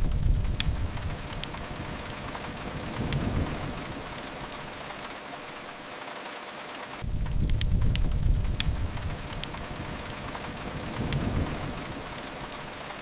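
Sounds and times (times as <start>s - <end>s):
low rumble: 0.0s - 4.9s, 7.0s - 13.0s
fire crackles: 0.0s - 13.0s
rain hiss: 0.0s - 13.0s.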